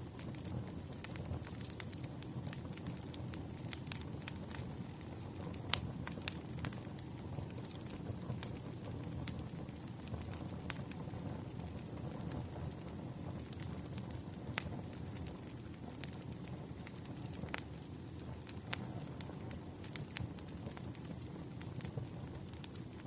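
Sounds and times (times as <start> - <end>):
firewood crackling and popping: 0.0 - 23.0
low rush of flames: 0.0 - 23.0.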